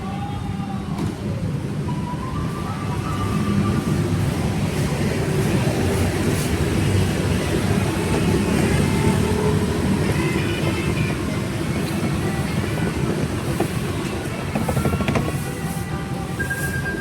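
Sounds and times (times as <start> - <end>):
traffic rumble of passing vehicles: 0.0 - 17.0.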